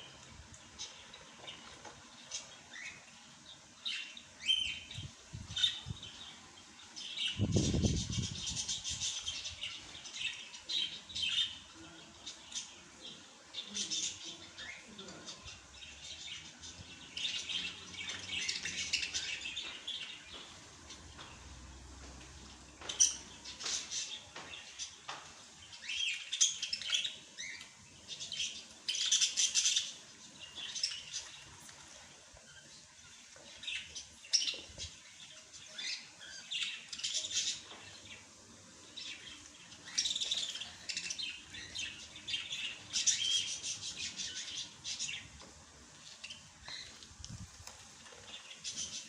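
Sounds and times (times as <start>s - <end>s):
small songbirds chirping: 0.0s - 49.0s.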